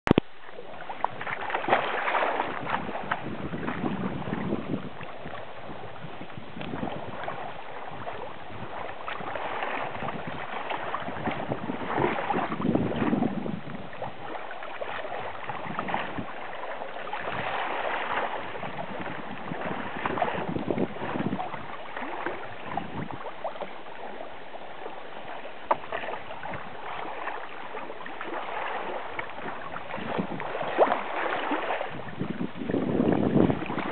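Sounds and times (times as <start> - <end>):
paddle splashes: 0.1 - 33.9
water sloshing against hull: 0.1 - 33.9.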